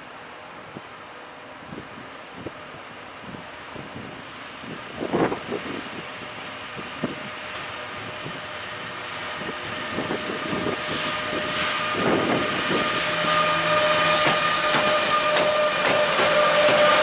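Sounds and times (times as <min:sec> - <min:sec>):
locomotive whine: 0:00.0 - 0:17.0.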